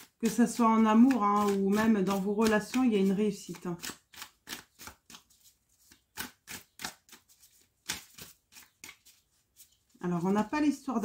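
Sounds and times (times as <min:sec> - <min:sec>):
cards being shuffled: 0:00.5 - 0:10.8.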